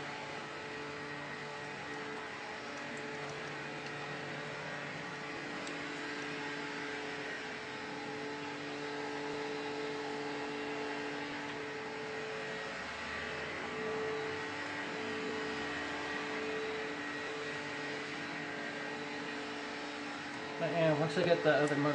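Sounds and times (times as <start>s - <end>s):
machine hum: 0.0s - 21.9s.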